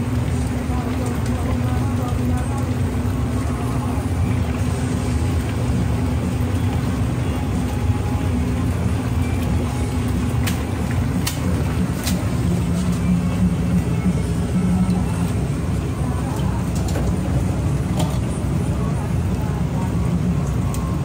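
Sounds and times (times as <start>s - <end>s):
gas burners and extractor rumble: 0.0s - 21.0s.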